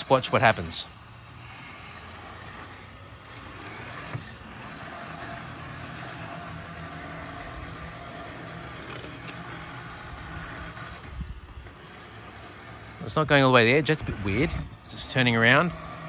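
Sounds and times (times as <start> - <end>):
robotic lawn mower humming: 0.0 - 16.0.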